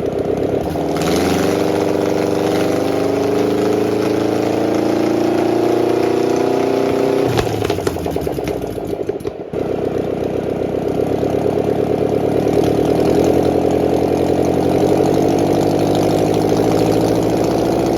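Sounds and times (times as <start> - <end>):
boat engine idling: 0.0 - 4.9, 7.5 - 17.9.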